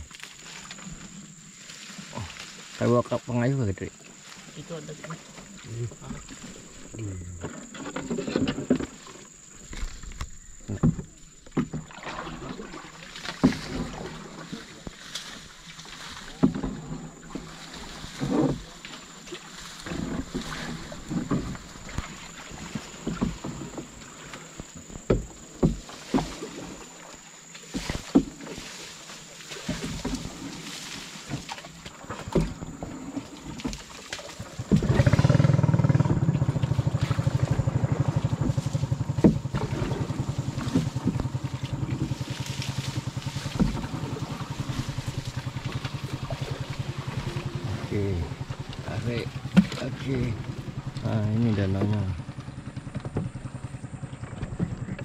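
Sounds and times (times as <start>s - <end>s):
branches scraping against canoe: 0.0s - 55.0s
small boat engine running: 0.0s - 55.0s.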